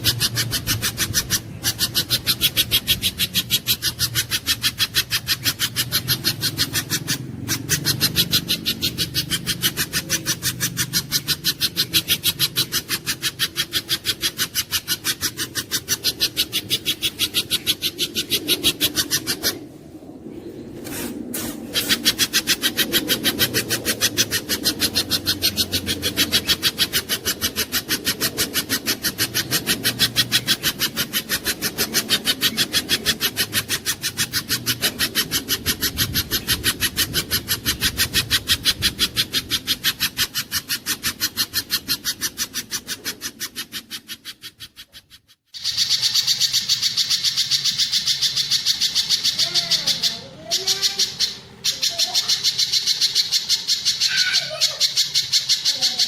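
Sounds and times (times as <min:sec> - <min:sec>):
rapid rasping bird call: 0:00.0 - 0:19.9, 0:20.8 - 0:56.0
high chattering birdsong: 0:00.0 - 0:56.0.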